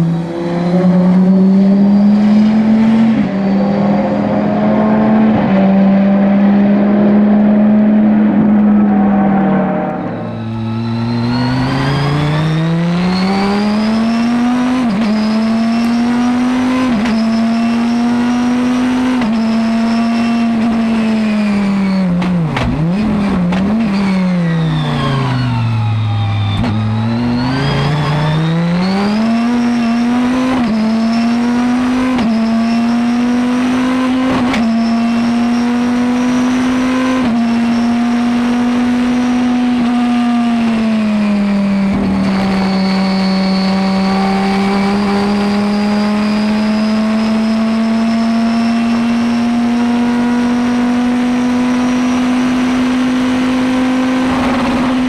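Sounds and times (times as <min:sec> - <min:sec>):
race car engine revving: 0:00.0 - 0:55.0
throttle blips on downshifts: 0:00.0 - 0:55.0.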